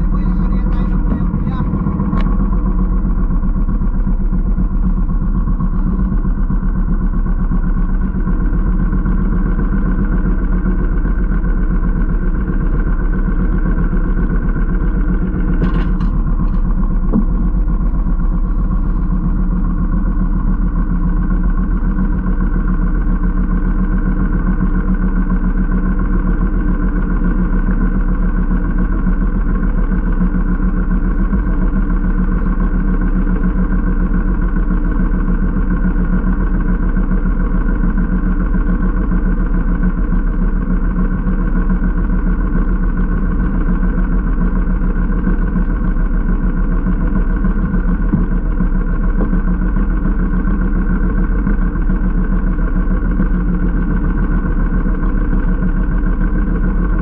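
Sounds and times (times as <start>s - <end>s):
small boat engine running: 0.0s - 57.0s.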